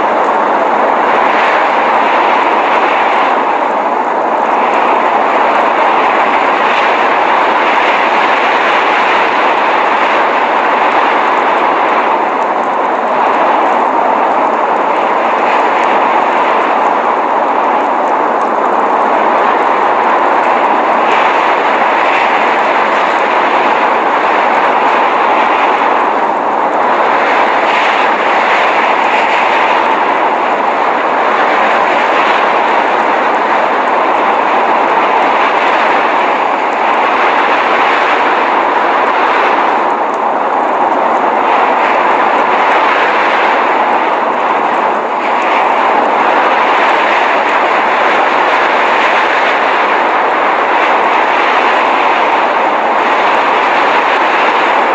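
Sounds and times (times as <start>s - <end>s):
blizzard wind rushing: 0.0s - 54.9s.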